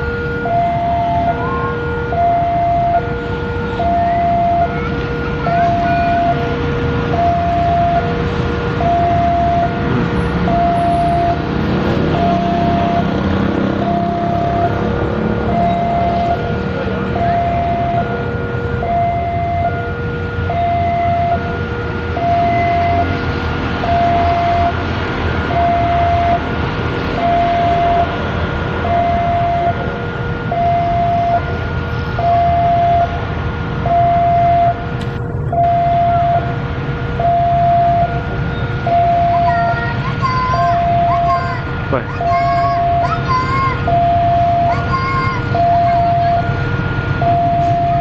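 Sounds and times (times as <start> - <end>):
continuous rumble: 0.0 - 48.0
two-tone crossing alarm: 0.0 - 48.0.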